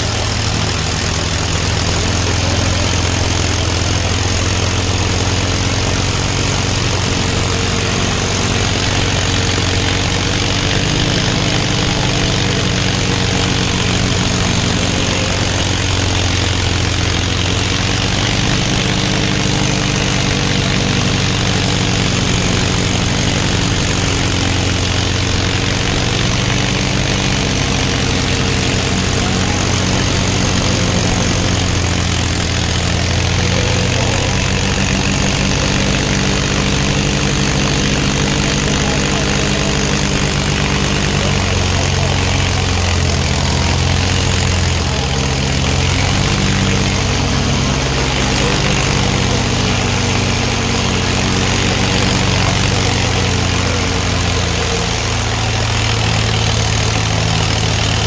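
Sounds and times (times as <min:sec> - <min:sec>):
tractor diesel engines under load: 0:00.0 - 0:58.0.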